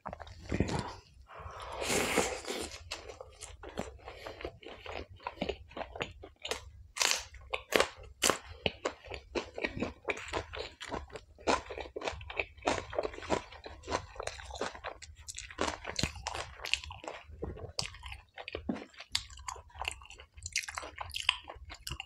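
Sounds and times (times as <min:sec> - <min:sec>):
chewing crunchy food: 0:00.0 - 0:22.0.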